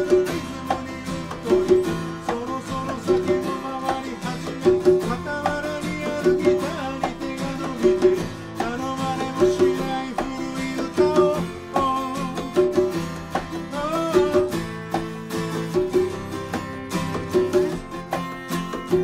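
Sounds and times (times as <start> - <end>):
plucked string band music: 0.0 - 19.0.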